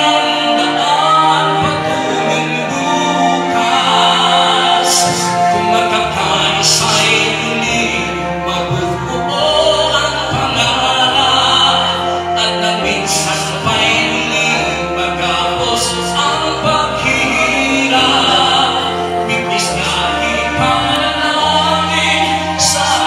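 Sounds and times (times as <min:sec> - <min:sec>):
backing track with bass notes: 0:00.0 - 0:23.0
man singing into microphone: 0:00.0 - 0:23.0.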